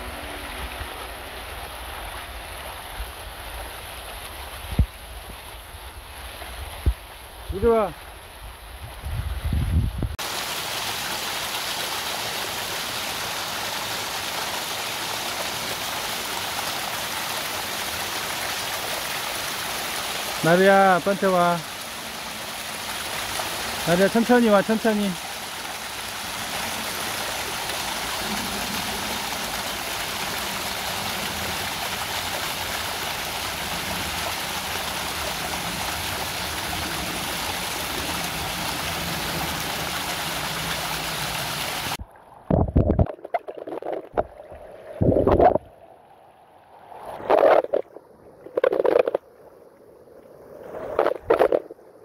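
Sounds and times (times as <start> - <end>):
stream rushing over rocks: 0.0 - 9.1, 10.2 - 47.8, 50.7 - 51.7.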